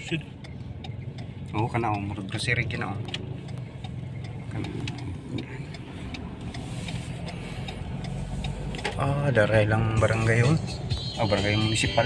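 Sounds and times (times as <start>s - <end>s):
car engine and road hum: 0.0s - 12.0s
turn signal ticking: 0.0s - 12.0s.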